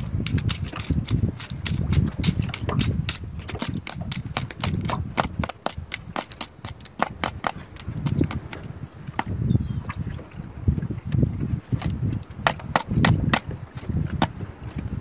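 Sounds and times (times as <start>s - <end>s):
knife scraping barnacles off shell: 0.0s - 9.4s, 11.1s - 14.9s.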